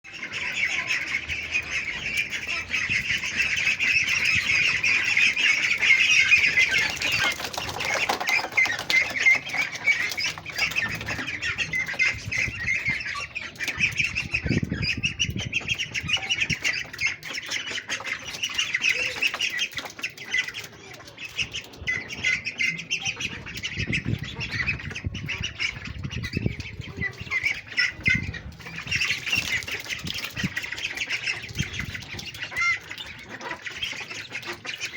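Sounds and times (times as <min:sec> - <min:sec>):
ducklings peeping: 0:00.0 - 0:34.9.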